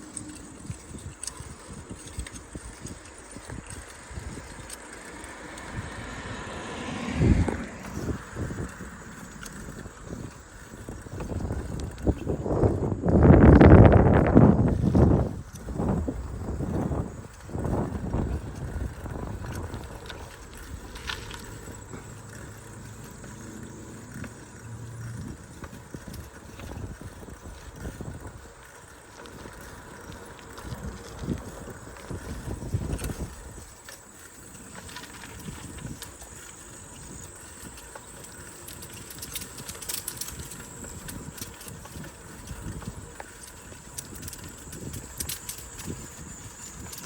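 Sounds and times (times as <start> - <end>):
bicycle rolling rumble: 0.0 - 47.0
bike clicks and rattles: 0.0 - 47.0.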